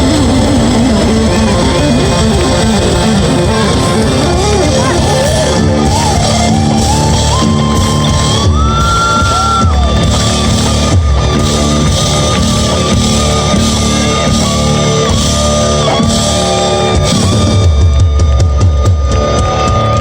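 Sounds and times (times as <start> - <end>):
lead guitar melody: 0.0 - 18.2
bass: 0.0 - 20.0
drums: 0.0 - 20.0.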